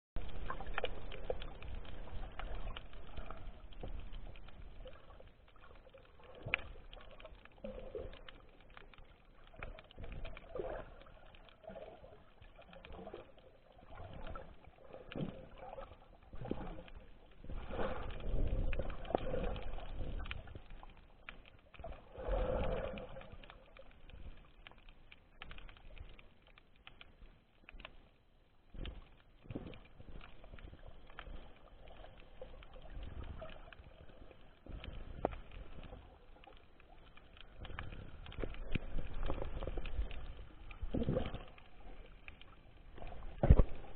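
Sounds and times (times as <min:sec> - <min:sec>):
underwater water movement: 0:00.2 - 0:43.9.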